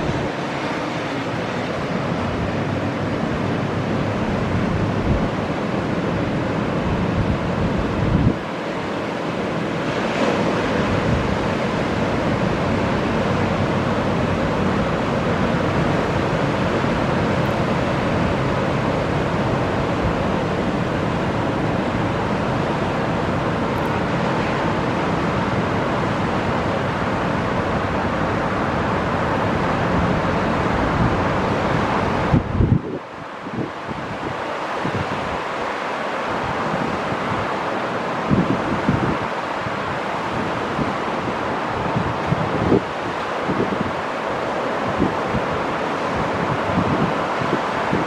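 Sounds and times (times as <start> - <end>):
wind buffeting microphone: 0.0 - 8.6, 9.8 - 35.5, 38.2 - 48.0
ocean surf breaking: 0.0 - 48.0.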